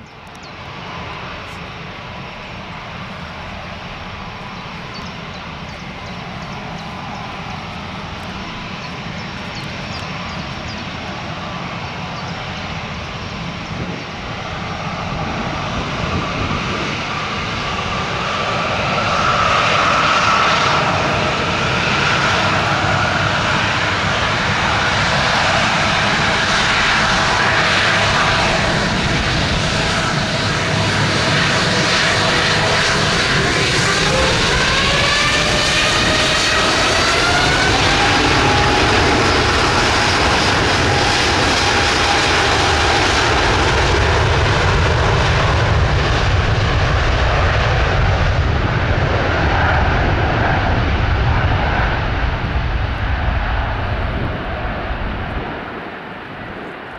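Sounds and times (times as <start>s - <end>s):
jet engine noise with whine: 0.0s - 56.9s.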